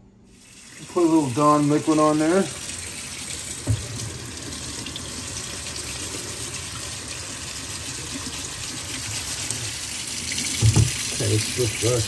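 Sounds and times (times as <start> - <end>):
tap water running into sink: 0.3 - 12.0.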